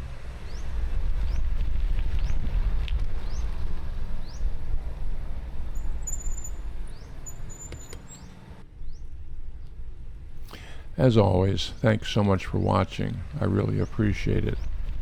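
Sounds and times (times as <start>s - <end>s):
wind rumbling on microphone: 0.0s - 8.0s, 8.6s - 15.0s.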